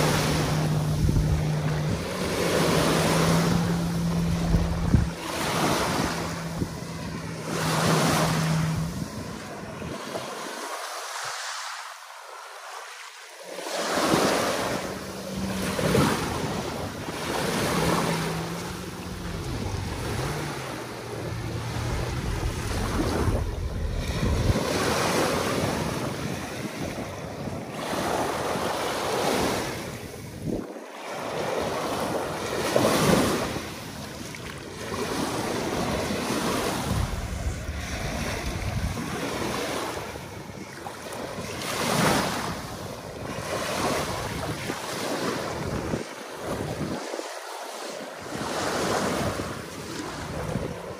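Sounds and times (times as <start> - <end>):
wind buffeting microphone: 0.0 - 10.5, 13.9 - 47.2, 48.2 - 50.9
surf breaking on shore: 0.0 - 50.9.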